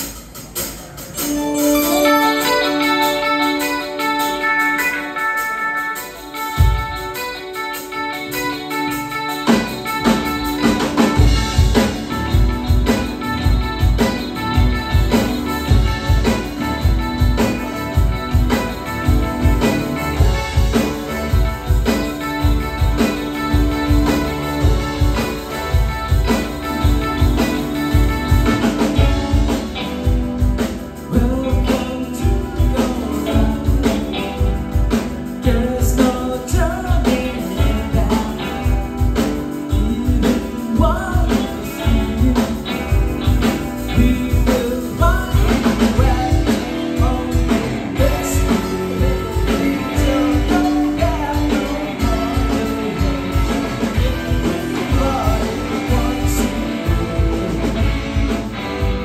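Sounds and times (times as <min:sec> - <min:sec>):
live band playing: 0:00.0 - 0:59.0
steady drum beat: 0:00.0 - 0:59.0.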